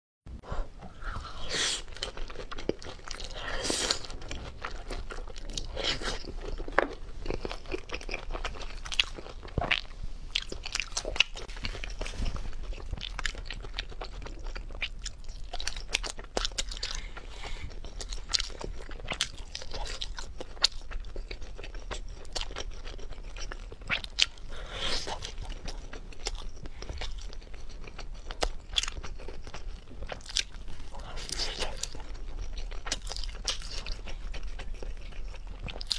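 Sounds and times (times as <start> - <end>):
wet chewing: 1.2 - 35.9
crunching fried food: 1.7 - 35.9.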